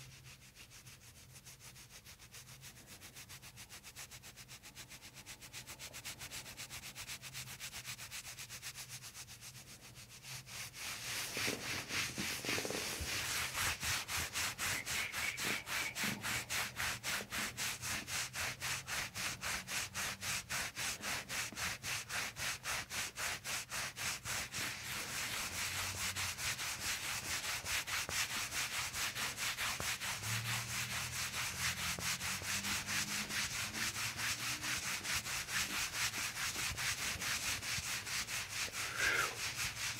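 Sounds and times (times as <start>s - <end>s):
hands rubbing on a back: 0.0s - 39.9s.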